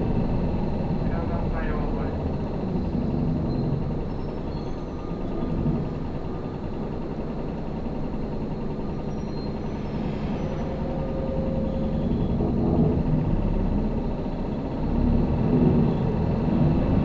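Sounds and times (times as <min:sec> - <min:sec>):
diesel bus engine rumble: 0:00.0 - 0:17.0
road noise: 0:00.0 - 0:17.0.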